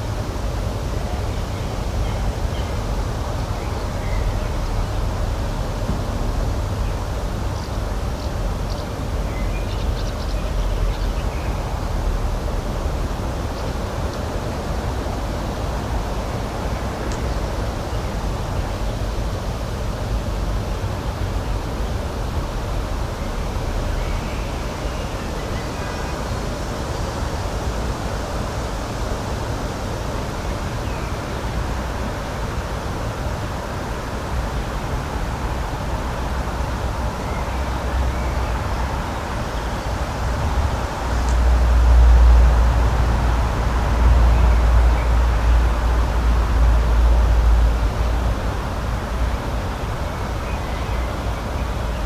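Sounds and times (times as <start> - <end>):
steady rushing nature noise: 0.0 - 52.0.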